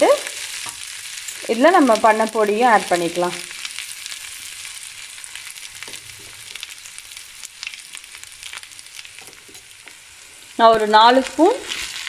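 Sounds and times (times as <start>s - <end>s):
faint crackling sizzle in pan: 0.0s - 12.0s.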